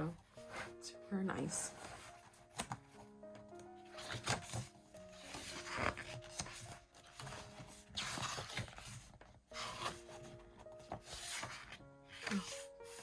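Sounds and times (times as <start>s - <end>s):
pages turning and rustling: 0.0s - 13.0s
soft piano music: 0.0s - 13.0s.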